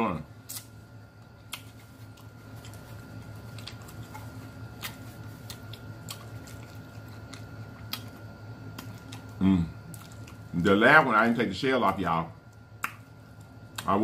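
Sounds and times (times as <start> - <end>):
steady low hum: 0.0 - 14.0
chewing and mouth smacks: 0.5 - 10.6, 11.8 - 14.0.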